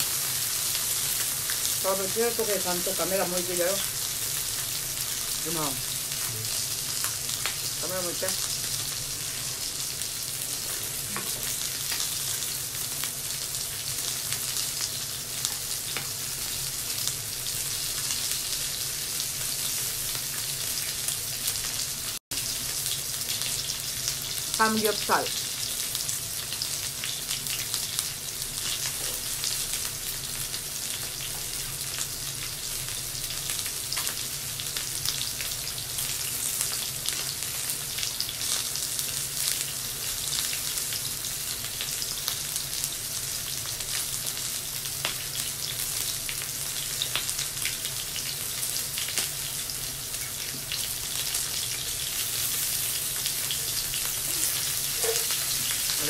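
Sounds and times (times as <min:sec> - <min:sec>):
meat sizzling on a grill: 0:00.0 - 0:56.0.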